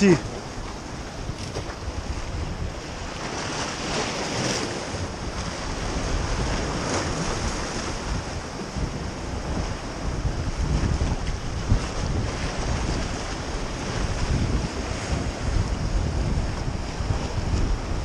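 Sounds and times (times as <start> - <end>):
waves breaking on rocks: 0.0 - 18.0
wind buffeting microphone: 0.0 - 18.0.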